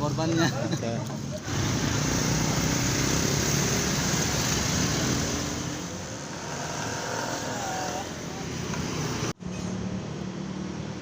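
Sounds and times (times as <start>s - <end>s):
motor vehicle passing: 1.3s - 11.0s.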